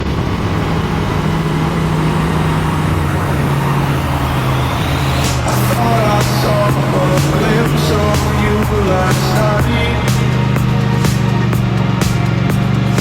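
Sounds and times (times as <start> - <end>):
electronic music: 0.0 - 13.0
motorcycle engine cruising: 0.0 - 13.0.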